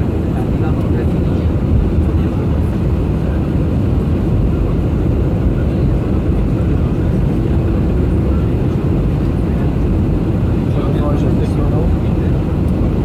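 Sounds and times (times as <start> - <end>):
jet engine roar in flight: 0.0 - 13.0.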